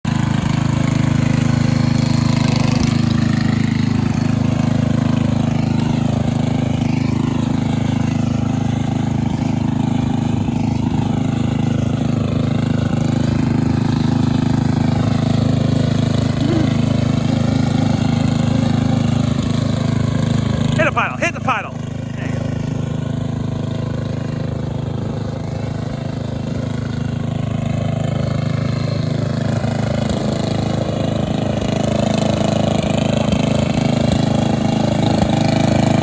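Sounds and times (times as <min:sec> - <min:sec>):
vehicle engine running steadily: 0:00.1 - 0:36.0.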